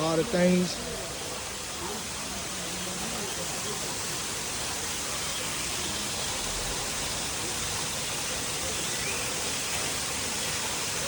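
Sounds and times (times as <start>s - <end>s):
indoor waterfall rushing: 0.0s - 11.0s.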